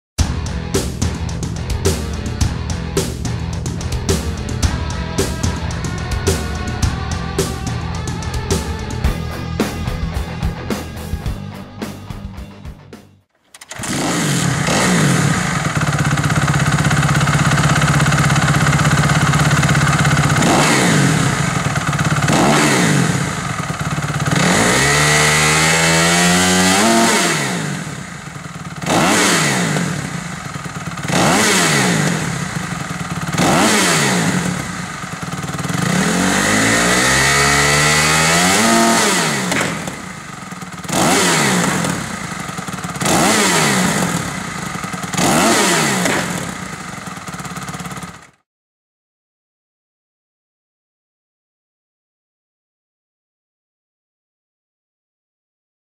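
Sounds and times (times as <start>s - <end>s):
motorcycle engine revving: 0.2s - 48.4s.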